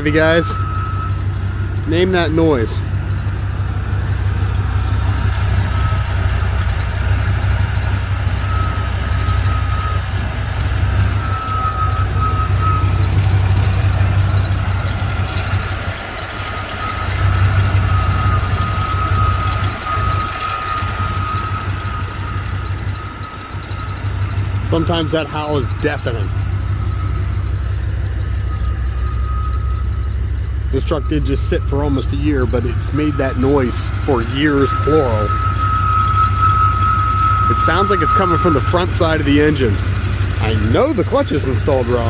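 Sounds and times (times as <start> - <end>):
engine running: 0.0 - 42.0
high-pitched squeaky whine: 0.0 - 42.0.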